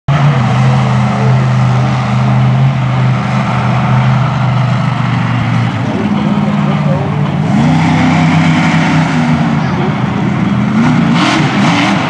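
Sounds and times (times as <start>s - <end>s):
truck engine running loud: 0.1s - 12.0s.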